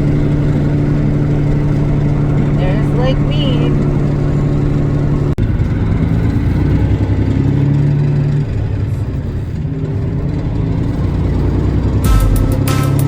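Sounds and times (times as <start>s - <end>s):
road rumble: 0.0s - 13.0s
vehicle engine humming: 0.0s - 13.0s.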